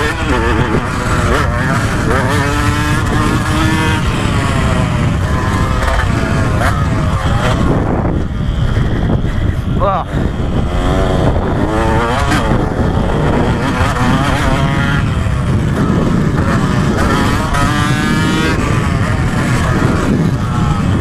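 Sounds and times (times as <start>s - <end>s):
motocross engine revving: 0.0s - 21.0s.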